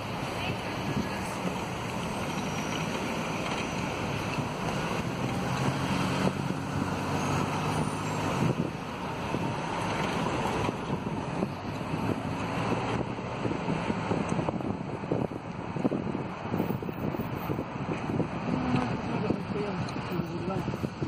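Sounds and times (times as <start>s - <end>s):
low engine hum: 0.0s - 21.0s
road and traffic noise: 0.0s - 21.0s.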